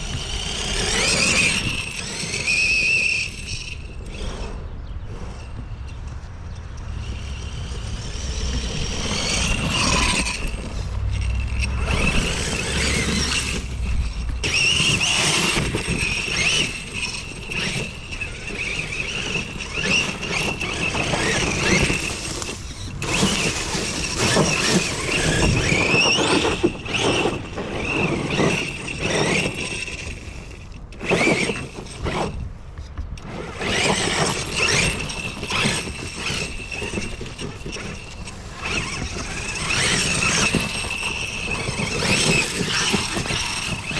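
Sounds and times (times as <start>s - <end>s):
electric motor whining: 0.0s - 32.4s, 33.2s - 43.9s.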